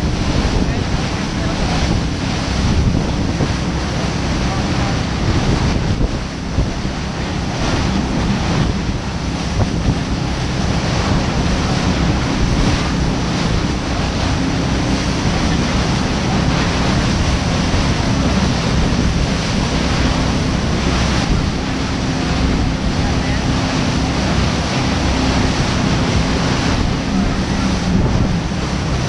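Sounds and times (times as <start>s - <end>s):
low engine drone: 0.0s - 29.0s
water rushing along boat hull: 0.0s - 29.0s
wind buffeting microphone: 0.0s - 29.0s.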